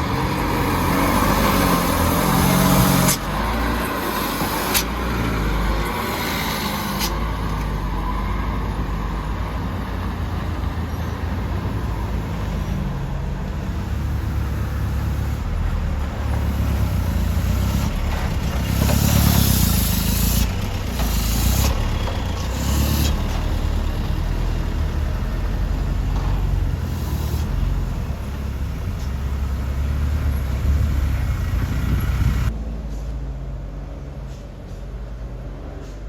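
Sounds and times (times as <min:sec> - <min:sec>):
diesel truck engine rumbling: 0:00.0 - 0:36.0.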